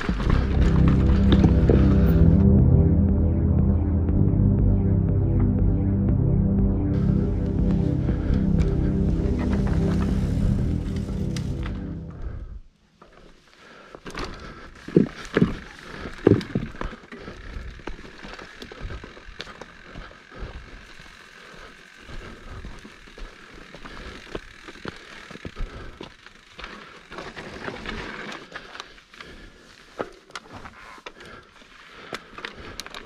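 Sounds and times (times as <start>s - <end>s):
bike tyres rolling on dirt: 0.0s - 2.2s, 7.7s - 33.0s.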